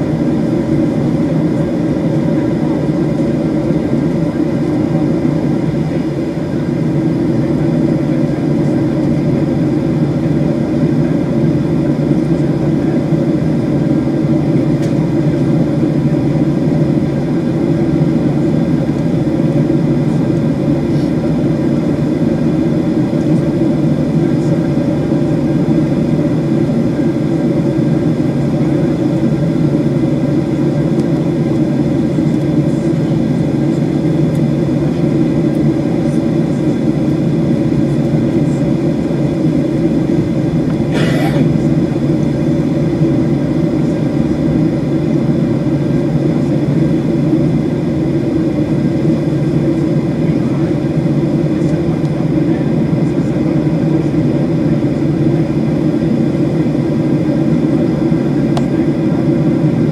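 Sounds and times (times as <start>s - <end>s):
jet engines low hum in cabin: 0.0s - 59.9s.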